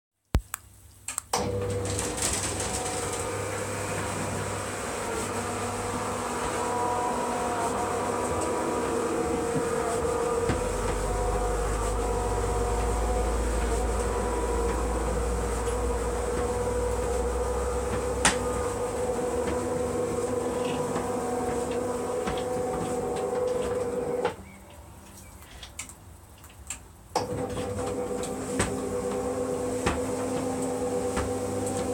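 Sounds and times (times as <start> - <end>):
garage door motor humming: 1.3 - 24.4, 27.2 - 31.9.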